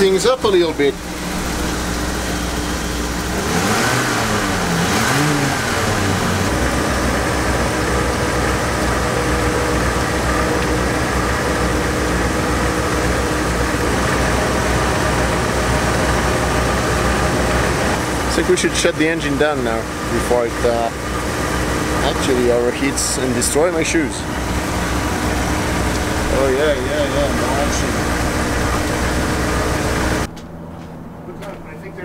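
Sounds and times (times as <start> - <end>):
motorhome engine revving: 0.0 - 30.3.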